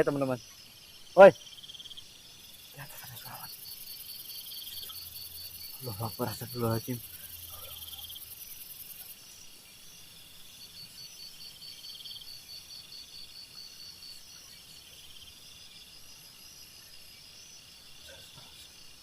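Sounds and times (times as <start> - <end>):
buzzy insect trills: 0.0 - 19.0
high pulsing insect call: 0.0 - 19.0.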